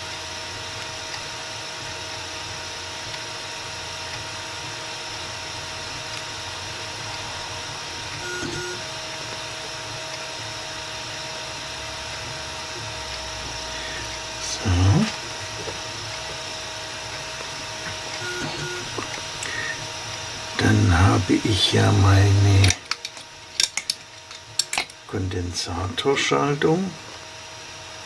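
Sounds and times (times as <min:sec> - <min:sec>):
low hum: 0:00.0 - 0:26.2
high-pitched equipment whine: 0:00.0 - 0:28.0.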